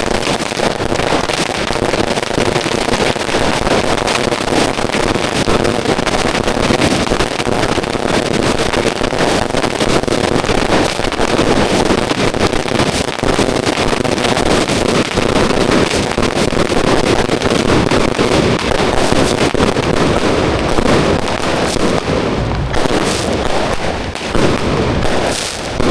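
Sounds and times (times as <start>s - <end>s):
firecrackers banging and crackling: 0.0s - 25.9s.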